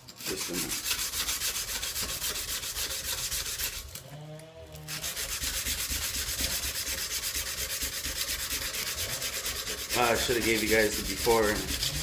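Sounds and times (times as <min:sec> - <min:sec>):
sandpaper rubbing on knife blade: 0:00.0 - 0:04.0, 0:04.8 - 0:12.0.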